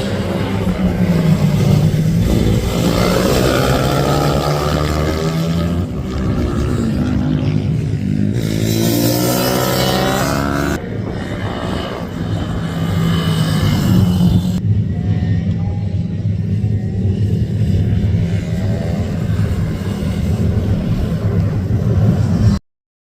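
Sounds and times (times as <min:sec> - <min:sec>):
minibike engines racing: 0:00.0 - 0:22.6.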